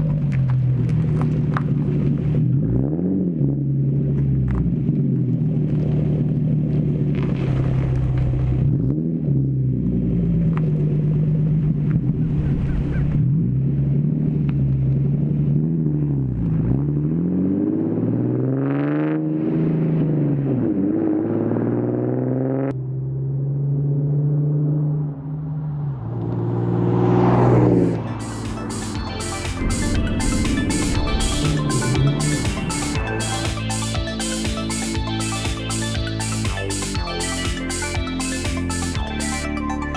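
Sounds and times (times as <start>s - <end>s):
loud car exhaust revving: 0.0s - 39.9s.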